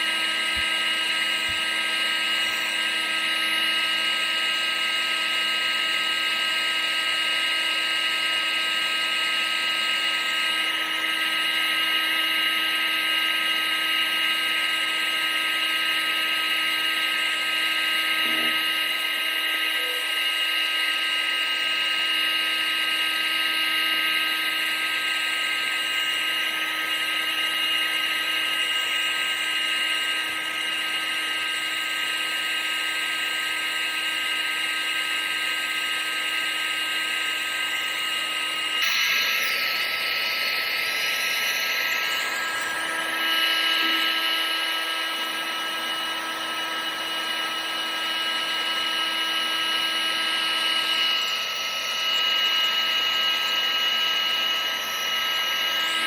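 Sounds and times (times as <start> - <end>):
vacuum cleaner motor whirring: 0.0 - 56.0.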